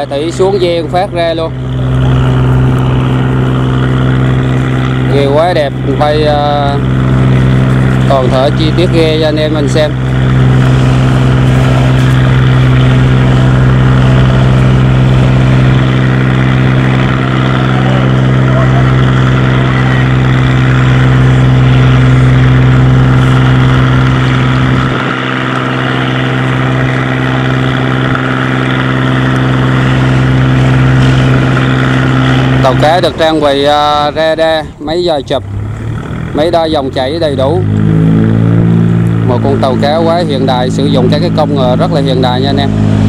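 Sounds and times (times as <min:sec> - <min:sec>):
marine diesel engine running: 0:00.0 - 0:43.0.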